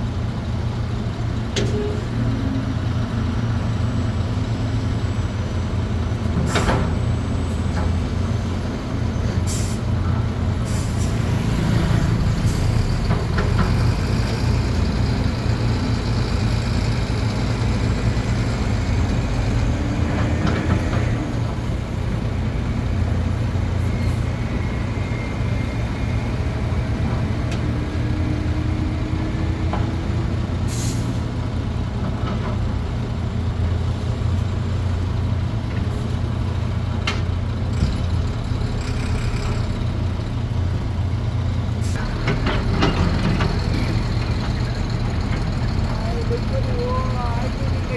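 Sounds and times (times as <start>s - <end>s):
low diesel engine drone: 0.0s - 47.9s.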